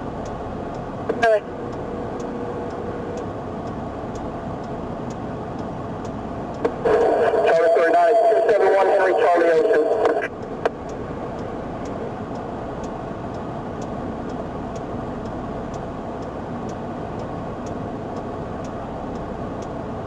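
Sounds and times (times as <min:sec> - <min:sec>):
regular flasher ticking: 0:00.0 - 0:20.0
vehicle idling: 0:00.0 - 0:20.0.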